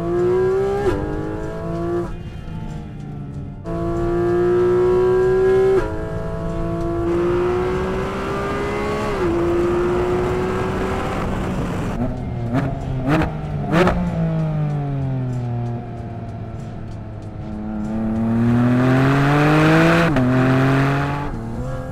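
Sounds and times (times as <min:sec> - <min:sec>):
car engine accelerating hard: 0:00.0 - 0:02.2, 0:03.6 - 0:21.9
engine rev blips: 0:03.1 - 0:21.9.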